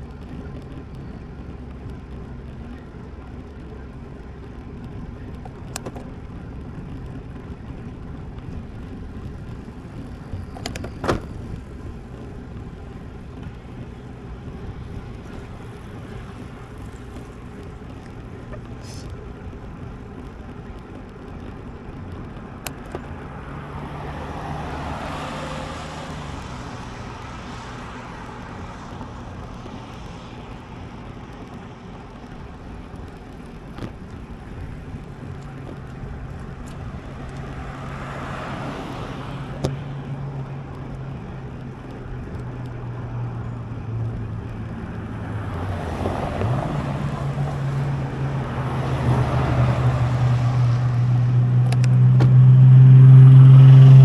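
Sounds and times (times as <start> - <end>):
cars passing by: 0.0 - 54.0
traffic engine hum: 0.0 - 54.0.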